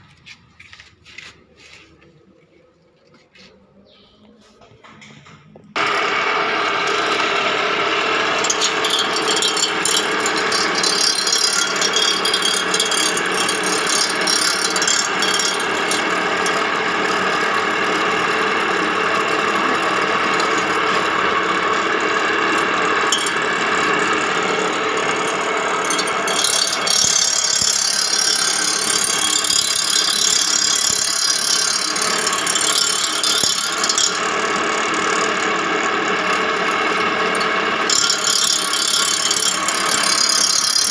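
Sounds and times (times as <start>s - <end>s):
reel grinder rattling and hissing: 5.8s - 40.9s.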